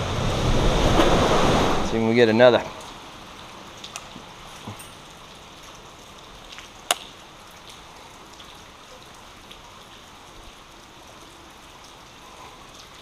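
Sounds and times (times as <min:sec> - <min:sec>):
creek water flowing: 0:00.0 - 0:13.0
rain hissing: 0:00.0 - 0:13.0.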